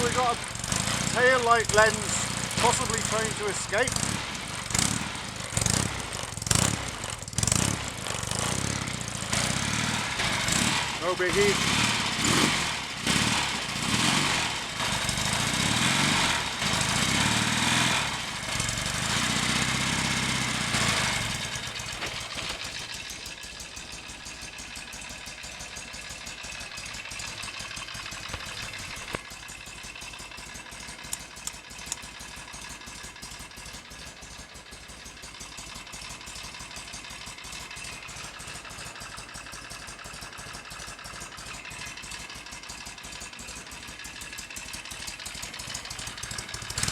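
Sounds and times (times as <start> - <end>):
motorcycle engine revving and idling: 0.0 - 46.9.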